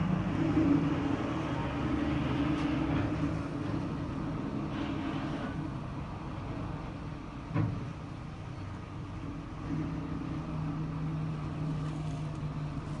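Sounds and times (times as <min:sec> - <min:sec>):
road-repair machinery engines: 0:00.0 - 0:13.0.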